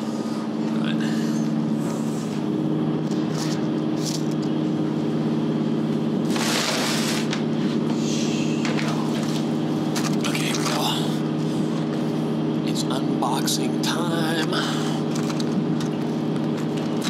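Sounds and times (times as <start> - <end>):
train interior hum and rumble: 0.0 - 17.0.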